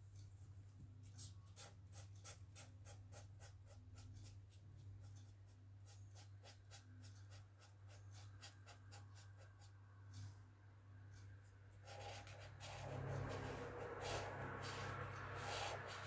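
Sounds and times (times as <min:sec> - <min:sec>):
low steady hum: 0:00.0 - 0:16.0
marker scratching on paper: 0:01.0 - 0:09.8, 0:11.7 - 0:16.0.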